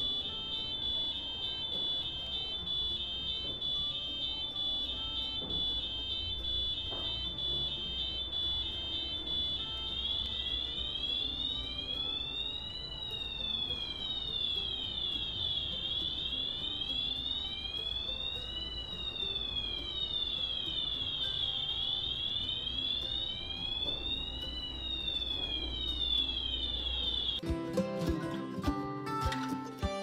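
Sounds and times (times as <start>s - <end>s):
piezo buzzer wailing siren tone: 0.0s - 27.5s.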